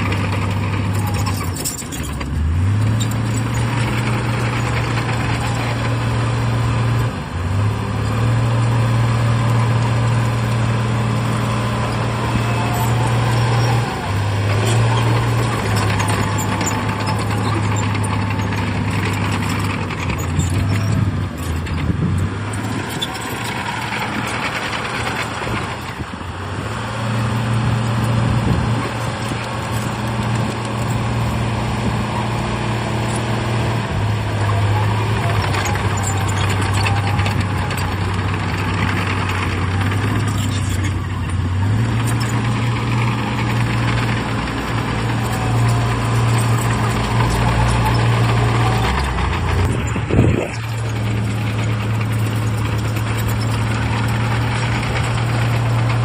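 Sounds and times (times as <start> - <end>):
heavy diesel engine running hard: 0.0 - 56.0.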